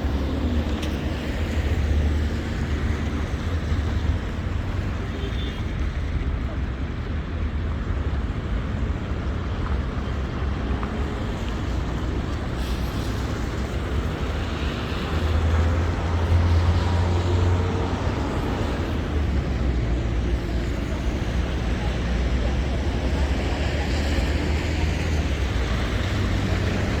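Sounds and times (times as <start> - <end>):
street traffic in rain: 0.0 - 27.0.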